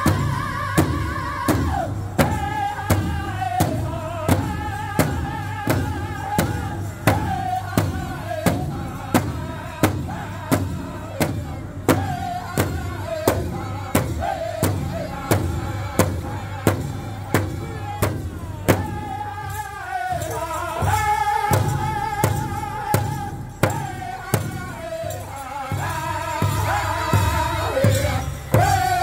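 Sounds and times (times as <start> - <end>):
large drum beat: 0.0 - 29.0
men singing in high voices: 0.0 - 29.0.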